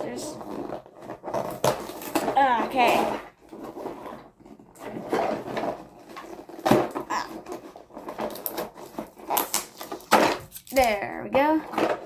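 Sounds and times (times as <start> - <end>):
cardboard rustling and crackling: 0.0 - 12.0.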